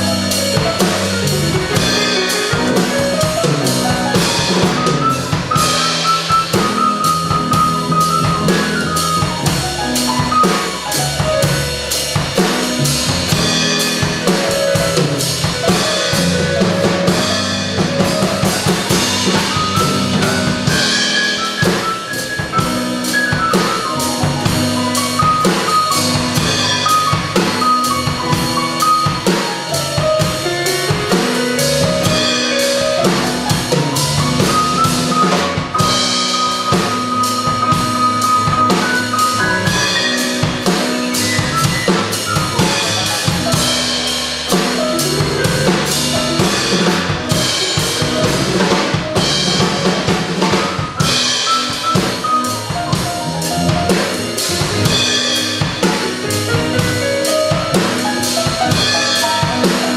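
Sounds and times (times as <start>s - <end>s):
drums and cymbals: 0.0s - 59.9s
jazz trio playing: 0.0s - 59.9s.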